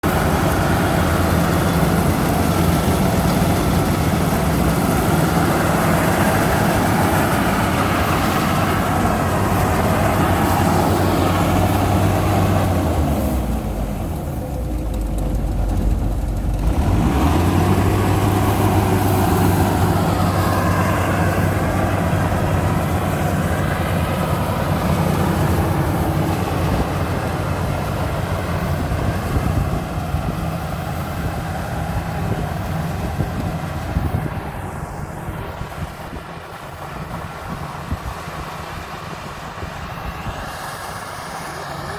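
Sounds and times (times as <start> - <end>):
combine harvester engine running: 0.0 - 41.9.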